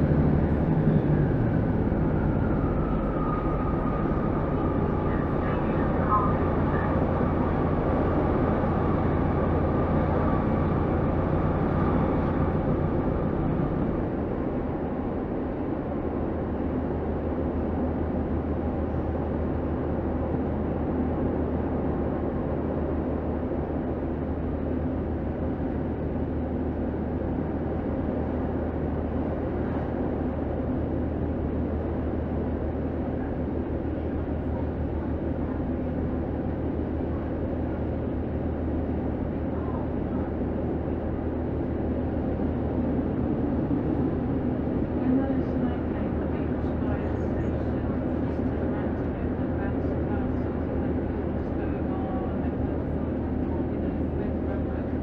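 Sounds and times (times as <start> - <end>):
train engine drone: 0.0 - 55.0
wheels rumbling on rail: 0.0 - 55.0.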